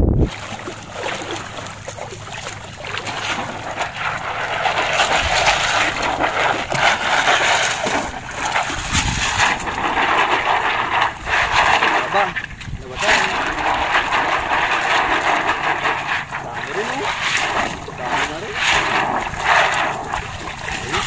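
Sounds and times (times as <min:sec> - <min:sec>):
seawater splashing and sloshing: 0:00.0 - 0:21.0.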